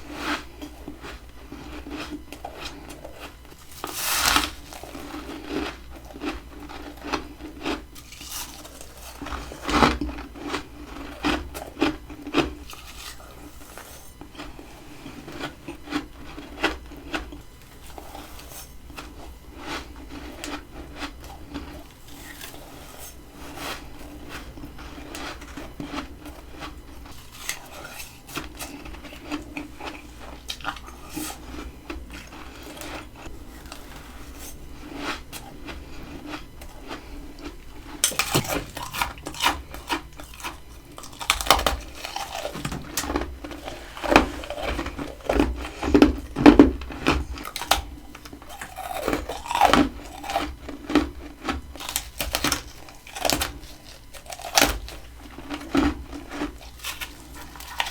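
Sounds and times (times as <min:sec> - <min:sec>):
chewing crunchy frost: 0:00.0 - 0:57.9.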